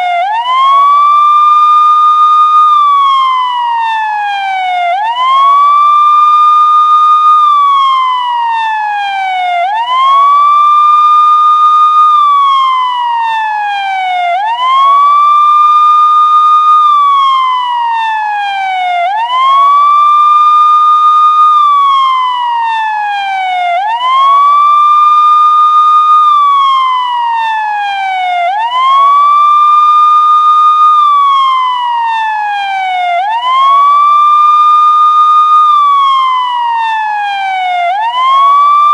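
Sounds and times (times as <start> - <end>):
electronic police siren wailing: 0.0 - 38.9.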